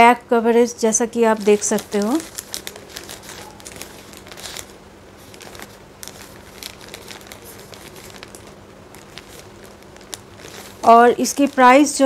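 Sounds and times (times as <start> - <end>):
plastic packet crinkling: 1.2 - 12.0.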